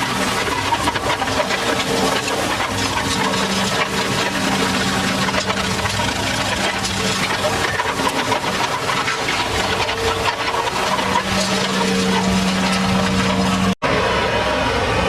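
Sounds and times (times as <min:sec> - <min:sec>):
rattling clatter of clicks: 0:00.0 - 0:13.8
tractor engine running: 0:00.0 - 0:15.0.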